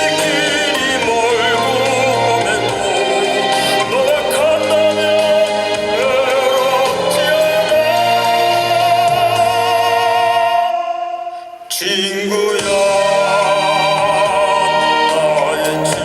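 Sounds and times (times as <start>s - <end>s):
band backing track: 0.0s - 10.8s, 12.3s - 16.0s
tenor singing with vibrato: 0.0s - 16.0s.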